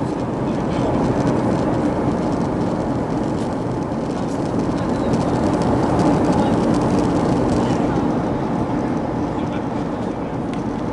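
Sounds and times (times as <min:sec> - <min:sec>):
jet engines rumbling: 0:00.0 - 0:10.9
rushing air: 0:00.0 - 0:10.9.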